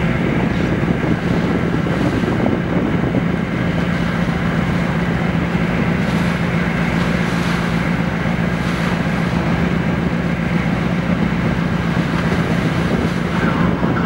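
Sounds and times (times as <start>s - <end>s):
boat engines droning: 0.0s - 14.0s
water rushing and churning: 0.0s - 14.0s.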